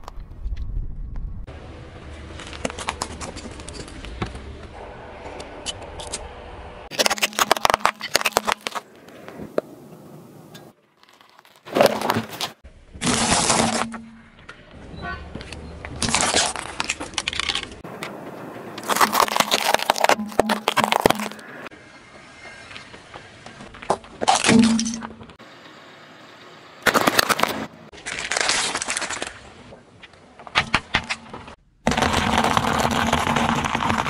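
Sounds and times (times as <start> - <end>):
car tyre crushing objects: 2.1 - 6.2, 6.9 - 9.8, 10.5 - 21.7, 22.4 - 25.4, 26.8 - 34.0.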